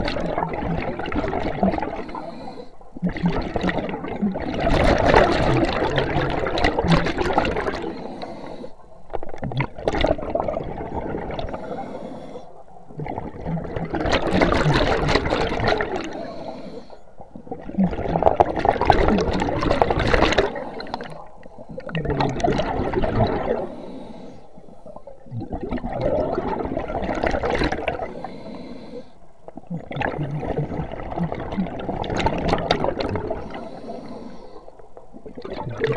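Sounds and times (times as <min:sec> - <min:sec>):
underwater bubbles gurgling: 0:00.0 - 0:35.9.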